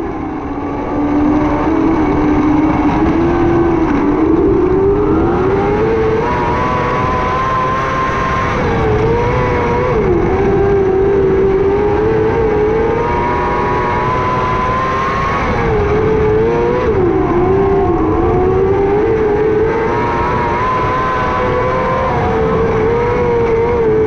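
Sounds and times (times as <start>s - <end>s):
racing engine at high revs: 0.0s - 24.0s.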